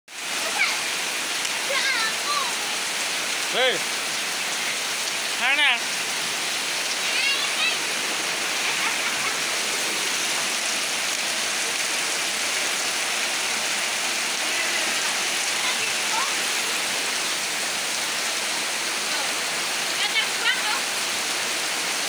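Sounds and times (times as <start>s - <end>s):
heavy rain on wet ground: 0.1s - 22.0s.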